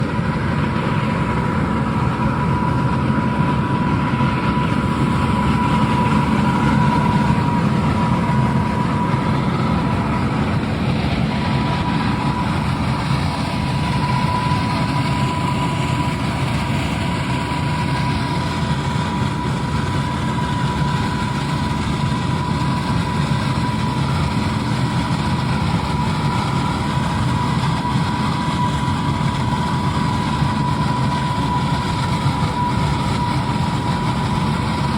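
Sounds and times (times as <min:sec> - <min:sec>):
steady high whine: 0:00.0 - 0:34.9
tractor engine rumble: 0:00.0 - 0:34.9.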